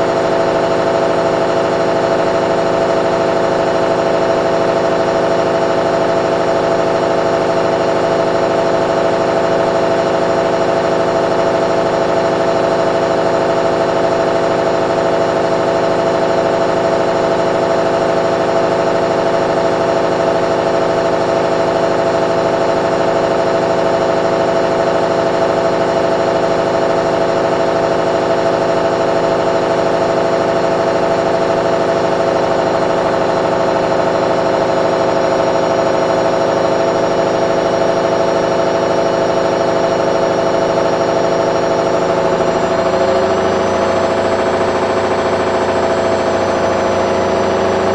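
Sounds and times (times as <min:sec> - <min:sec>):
washing machine motor hum: 0:00.0 - 0:47.9.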